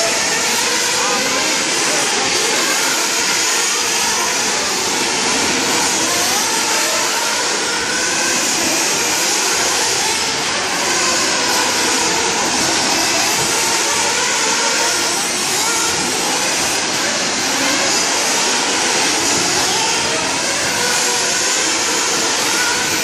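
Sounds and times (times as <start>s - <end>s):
rc car engines whining: 0.0s - 23.0s.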